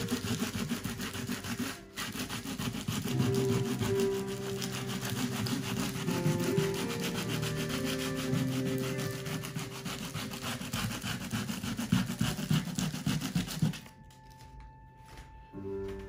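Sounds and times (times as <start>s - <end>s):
tool scraping paint on canvas: 0.0s - 15.2s.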